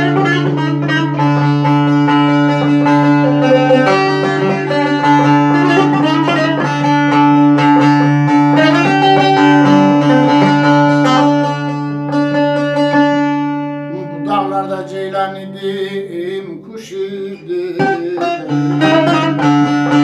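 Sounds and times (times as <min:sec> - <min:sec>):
plucked long-necked lute melody: 0:00.0 - 0:20.0.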